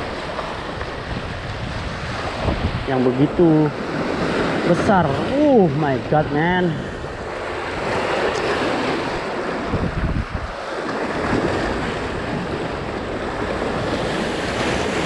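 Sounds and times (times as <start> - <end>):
waves splashing against concrete: 0.0 - 15.0
wind on microphone: 0.0 - 15.0.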